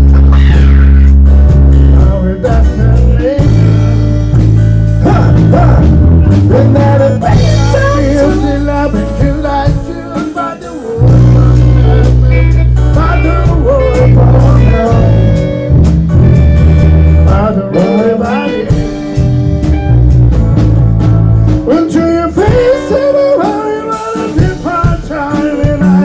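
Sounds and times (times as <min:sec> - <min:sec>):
person singing: 0:00.0 - 0:04.0, 0:05.0 - 0:15.7, 0:17.0 - 0:19.0, 0:21.5 - 0:26.0
heavy bass line: 0:00.0 - 0:26.0
live band music: 0:00.0 - 0:26.0.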